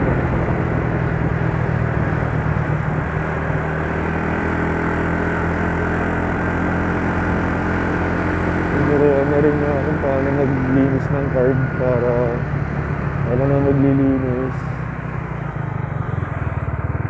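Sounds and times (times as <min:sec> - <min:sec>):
road noise: 0:00.0 - 0:17.0
scooter engine running: 0:00.0 - 0:17.0.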